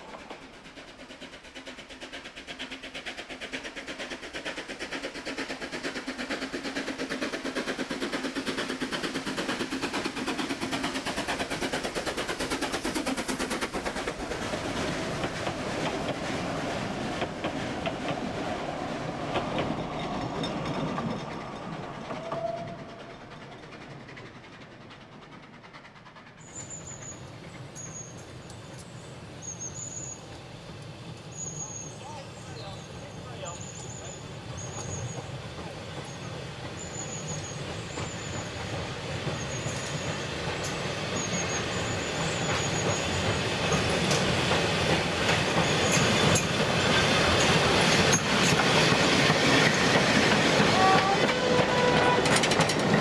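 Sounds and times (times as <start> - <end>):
carriages rattling over track: 0.0 - 29.4, 30.4 - 53.0
steam train beats: 0.0 - 53.0.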